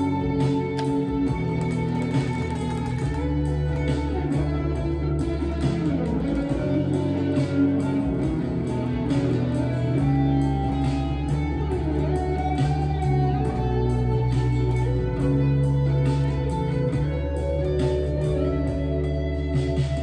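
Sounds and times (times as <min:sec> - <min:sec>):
accompaniment with steady beat: 0:00.0 - 0:20.0
electric guitar melody: 0:00.0 - 0:20.0.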